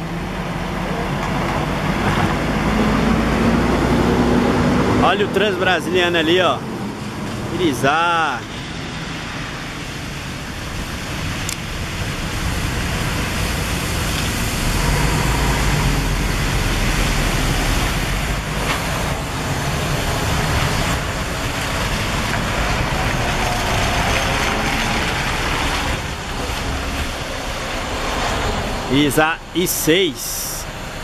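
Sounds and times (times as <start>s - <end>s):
bus station noise: 0.0s - 31.0s
coach diesel engine passing: 0.0s - 31.0s.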